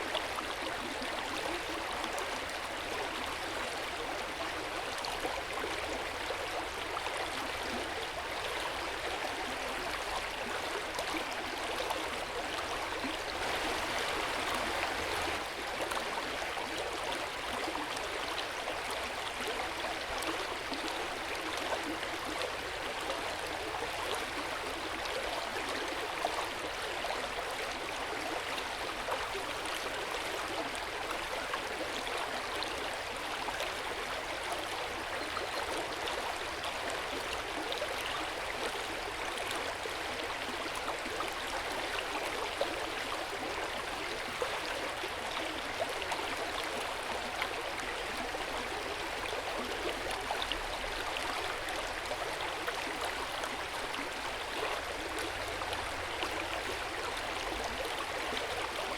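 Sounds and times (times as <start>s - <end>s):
hot spring water flowing: 0.0s - 58.9s.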